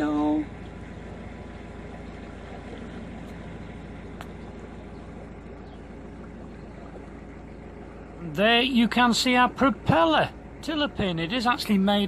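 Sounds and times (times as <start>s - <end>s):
boat engine running: 0.0s - 12.0s
faint water wash: 0.0s - 12.0s.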